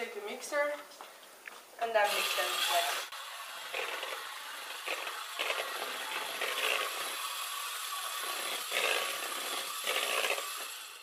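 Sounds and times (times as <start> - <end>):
electric hand mixer whisking: 2.0 - 11.0.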